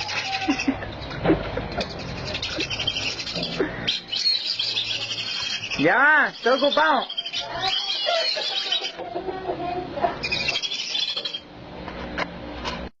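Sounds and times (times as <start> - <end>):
ducks calling: 0.0 - 11.5.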